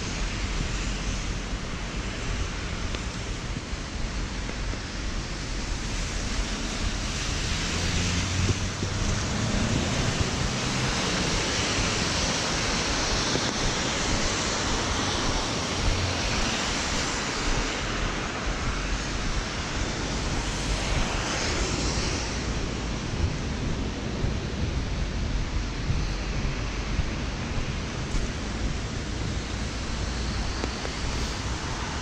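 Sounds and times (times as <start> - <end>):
low rumble of passing vehicles: 0.0 - 32.0
rain on an umbrella: 0.0 - 32.0
traffic on wet road: 0.0 - 32.0.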